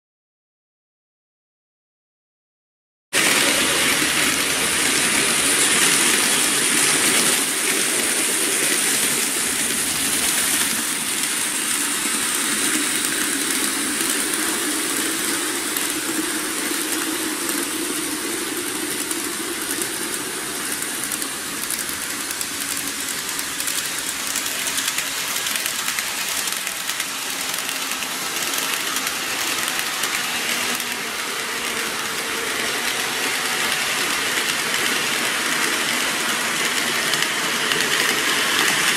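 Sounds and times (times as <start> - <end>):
model trains rattling on track: 3.2 - 38.9.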